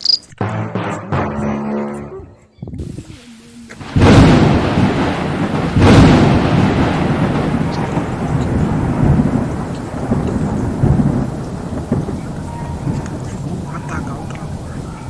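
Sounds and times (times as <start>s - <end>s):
heavy rain hiss: 2.7s - 15.0s
thunder clap and rumbles: 2.7s - 15.0s.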